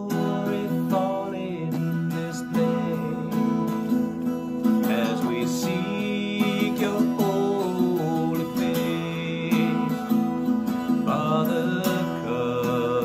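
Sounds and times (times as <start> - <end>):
acoustic guitar strumming: 0.0 - 13.0
man singing: 0.0 - 13.0.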